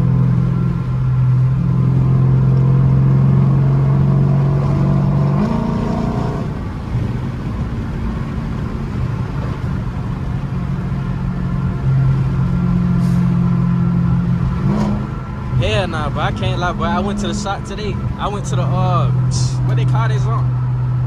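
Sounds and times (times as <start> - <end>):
loud car engine: 0.0 - 21.0.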